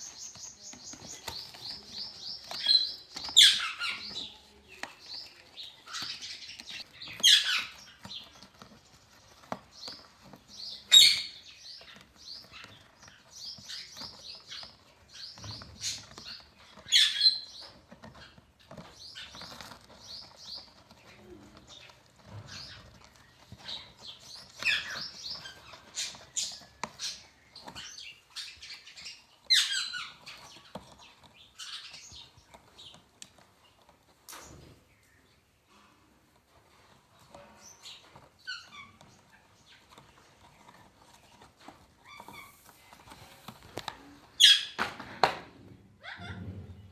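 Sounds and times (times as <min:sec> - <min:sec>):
parrots chirping and clicking: 0:00.0 - 0:45.4.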